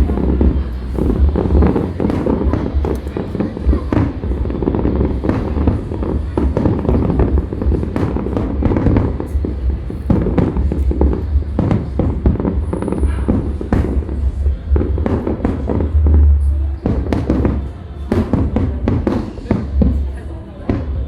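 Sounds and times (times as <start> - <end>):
continuous low rumble: 0.0 - 21.0
fireworks booming and cracking: 0.0 - 21.0
music playing: 0.0 - 21.0.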